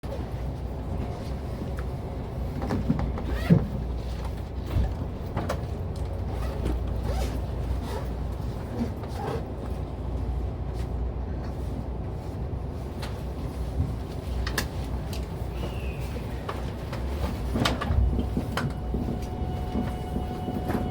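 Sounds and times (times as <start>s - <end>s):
train interior low rumble: 0.0s - 20.9s.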